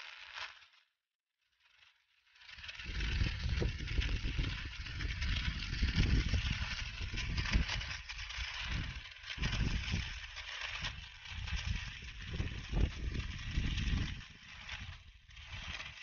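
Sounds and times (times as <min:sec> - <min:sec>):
welding arc crackling: 0:00.0 - 0:00.8, 0:01.7 - 0:16.0.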